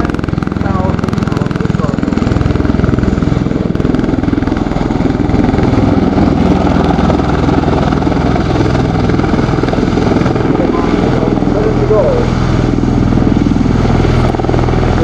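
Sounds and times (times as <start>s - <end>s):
tilt-rotor aircraft pulsing thrum: 0.0s - 15.0s.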